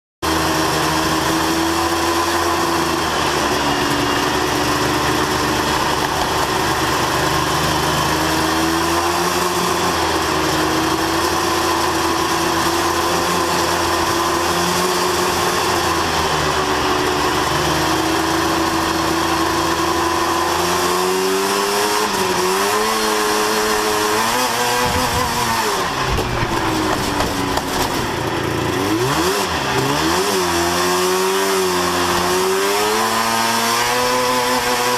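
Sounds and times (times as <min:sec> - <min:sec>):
racing truck engines revving: 0:00.2 - 0:34.9.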